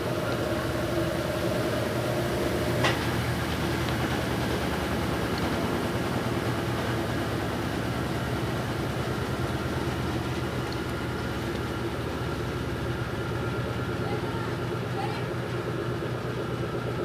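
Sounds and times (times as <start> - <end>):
washing machine churning: 0.0 - 17.0.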